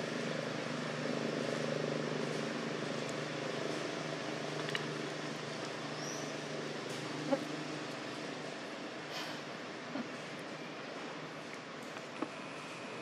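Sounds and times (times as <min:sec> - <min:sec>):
motor vehicle engine hum: 0:00.0 - 0:13.0.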